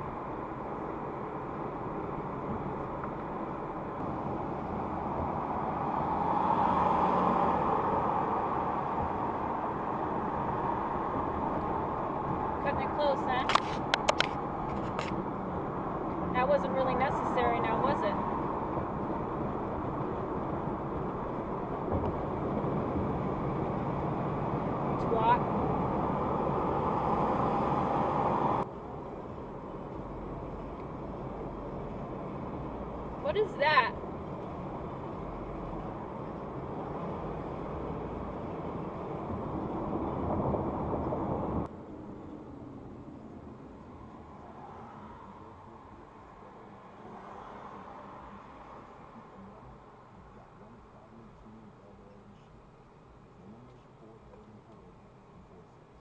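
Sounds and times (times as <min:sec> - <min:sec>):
road and wind noise in car cabin: 0:00.0 - 0:56.0.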